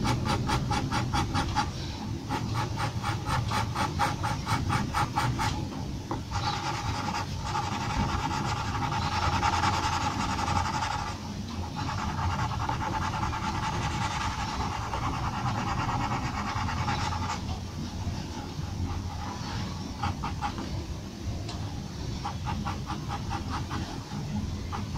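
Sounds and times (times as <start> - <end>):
pencil scratching on paper: 0.0 - 20.8, 22.1 - 24.9.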